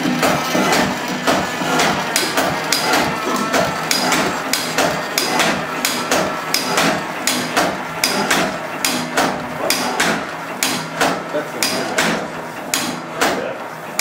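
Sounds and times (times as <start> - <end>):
old engine and generator running: 0.0 - 14.0
sharp clacking knocks: 0.1 - 13.5.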